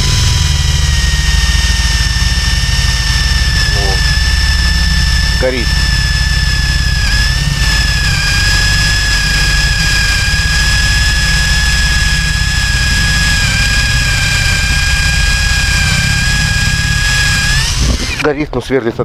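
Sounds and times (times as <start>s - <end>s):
cordless drill boring into wood: 0.0s - 18.6s.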